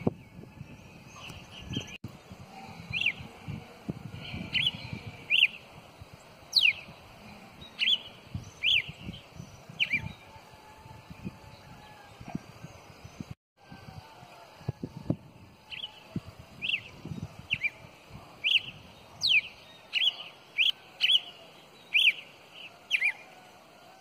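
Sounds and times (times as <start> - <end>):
songbird chirping: 0.0 - 13.4, 15.6 - 24.0.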